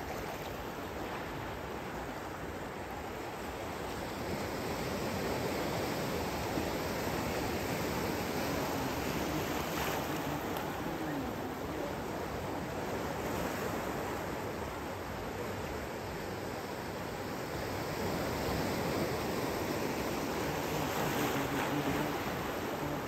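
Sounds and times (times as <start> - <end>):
small waves breaking: 0.0 - 23.0.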